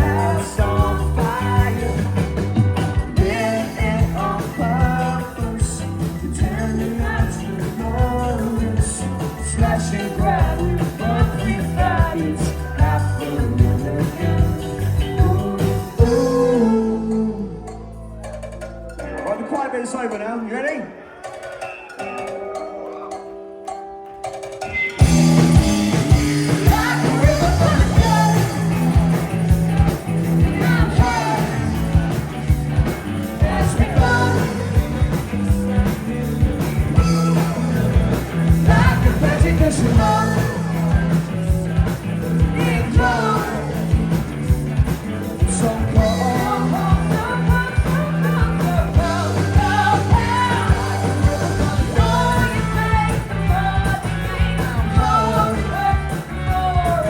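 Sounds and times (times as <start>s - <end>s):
drums hitting: 0.0s - 16.7s, 25.0s - 57.0s
live rock band playing: 0.0s - 20.5s, 21.3s - 57.0s.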